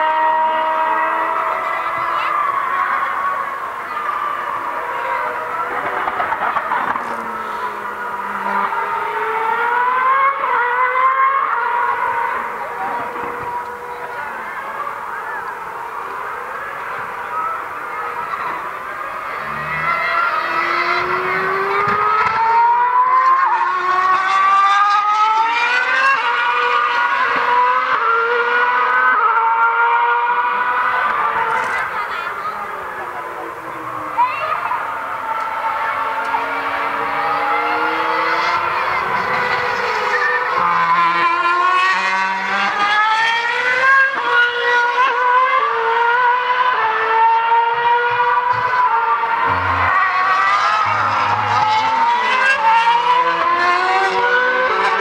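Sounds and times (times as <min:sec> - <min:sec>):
racing car engine screaming: 0:00.0 - 0:55.0.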